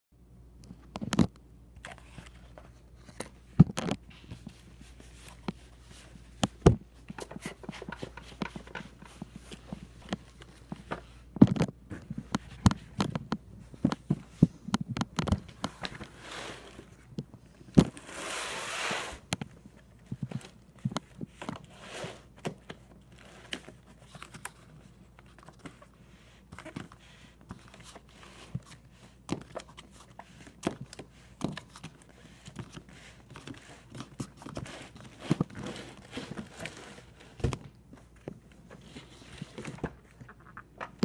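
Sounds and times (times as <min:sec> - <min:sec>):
cardboard rustling and scraping: 0:01.8 - 0:41.0.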